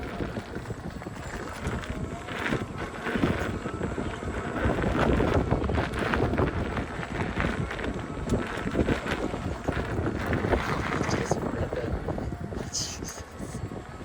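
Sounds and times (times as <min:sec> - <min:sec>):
knocks and rattles over rough ground: 0:00.0 - 0:14.0
wind buffeting microphone: 0:00.0 - 0:14.0.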